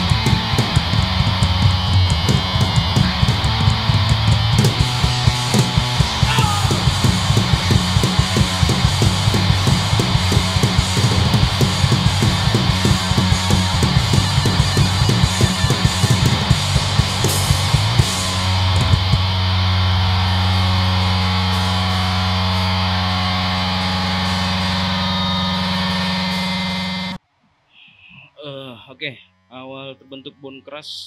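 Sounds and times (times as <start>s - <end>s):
fast driving drum beat: 0.0s - 25.0s
punk band playing live: 0.0s - 27.2s.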